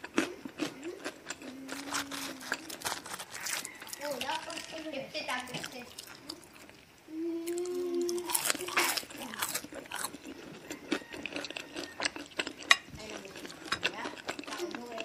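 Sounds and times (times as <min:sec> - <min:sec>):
crunching and chewing food: 0:00.0 - 0:15.0.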